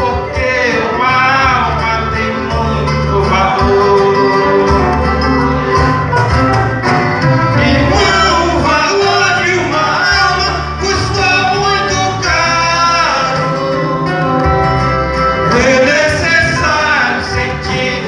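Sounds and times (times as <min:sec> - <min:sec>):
boy and man singing duet: 0:00.0 - 0:05.2, 0:07.5 - 0:14.6, 0:15.4 - 0:18.0
instrumental accompaniment with bass: 0:00.0 - 0:18.0.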